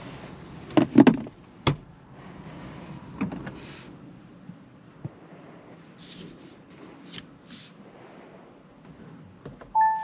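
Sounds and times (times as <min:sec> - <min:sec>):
low car cabin hum: 0:00.0 - 0:10.0.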